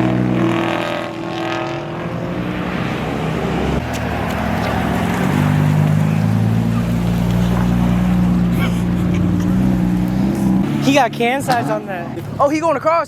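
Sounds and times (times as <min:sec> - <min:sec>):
revving car engine: 0:00.0 - 0:12.4.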